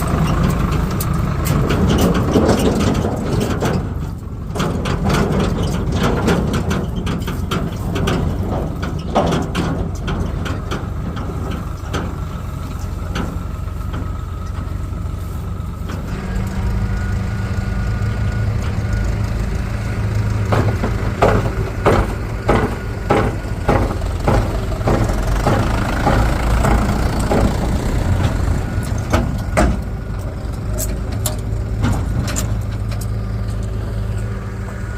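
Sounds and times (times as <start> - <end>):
metallic clanks and knocks: 0.0 - 15.0, 18.3 - 34.4
heavy diesel engine running: 0.0 - 34.9.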